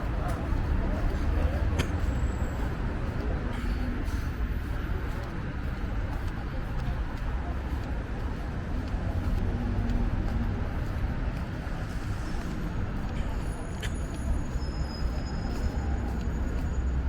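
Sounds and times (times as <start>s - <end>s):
faint voices: 0.0s - 17.0s
road traffic rumble: 0.0s - 17.0s.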